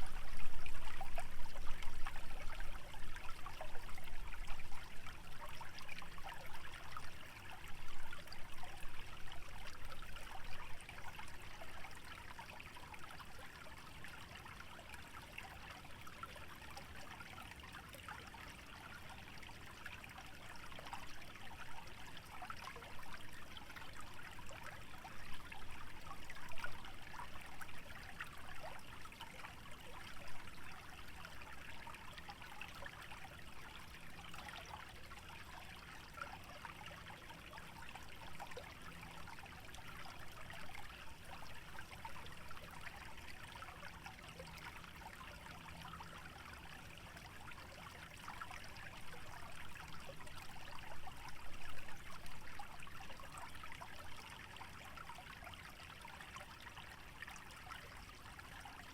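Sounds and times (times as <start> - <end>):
stream trickling and bubbling: 0.0 - 58.9.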